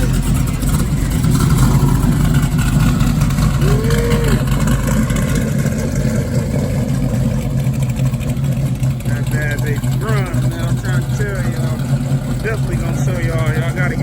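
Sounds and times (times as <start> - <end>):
race car engine idling: 0.0 - 14.0.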